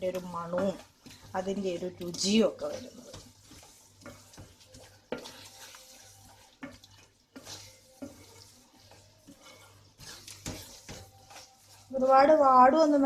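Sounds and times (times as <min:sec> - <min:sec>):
onions sizzling in a pan: 0:00.0 - 0:13.0
spatula stirring in a pan: 0:00.0 - 0:13.0.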